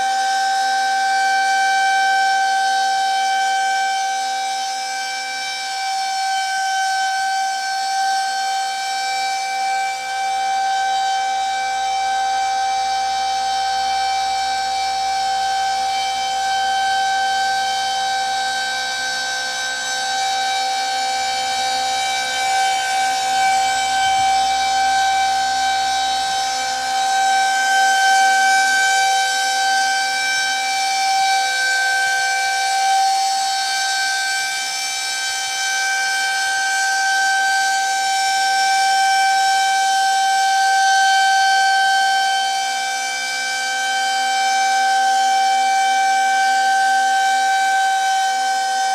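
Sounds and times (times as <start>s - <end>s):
warning siren steady tone: 0.0s - 48.9s.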